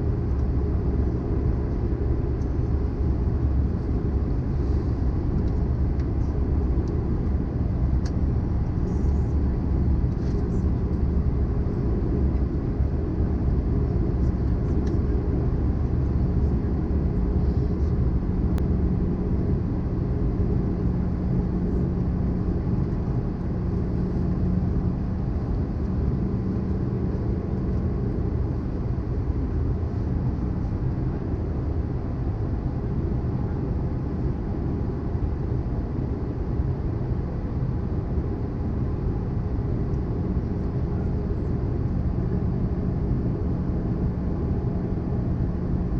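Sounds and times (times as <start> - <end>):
airplane cabin rumble: 0.0 - 45.9
steady low hum: 0.0 - 45.9.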